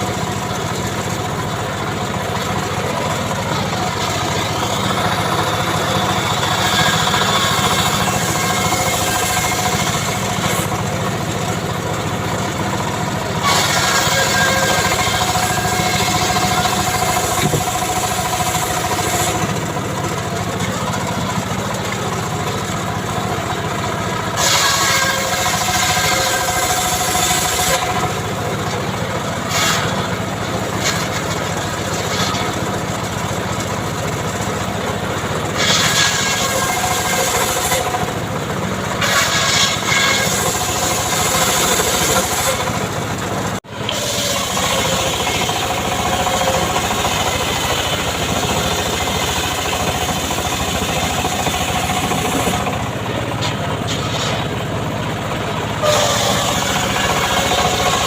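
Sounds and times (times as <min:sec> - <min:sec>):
chainsaw sawing wood: 0:02.1 - 0:38.2, 0:38.9 - 0:54.6, 0:55.8 - 0:58.0.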